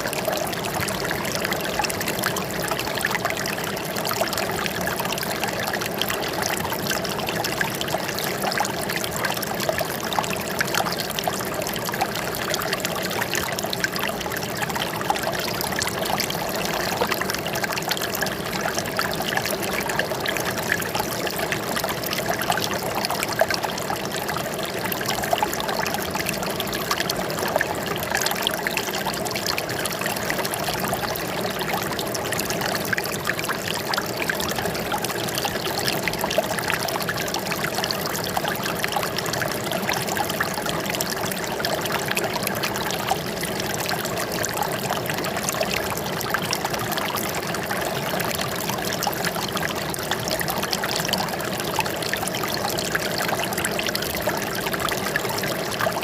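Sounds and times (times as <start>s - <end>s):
water flowing and trickling: 0.0s - 56.0s.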